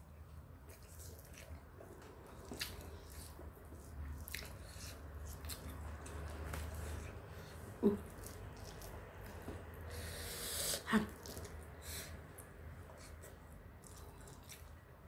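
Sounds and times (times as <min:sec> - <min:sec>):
low steady hum: 0:00.0 - 0:15.0
person chewing: 0:00.6 - 0:14.8.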